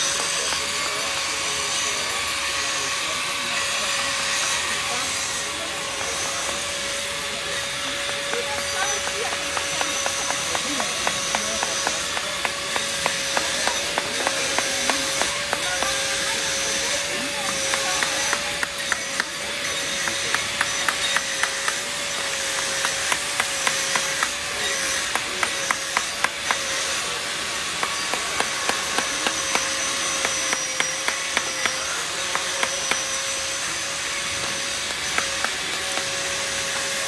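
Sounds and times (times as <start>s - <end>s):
chisel chipping ice: 0.0s - 37.0s.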